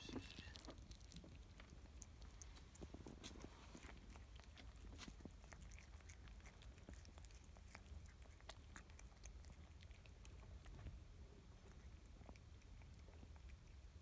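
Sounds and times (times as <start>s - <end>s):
farm animal chewing: 0.0s - 14.0s.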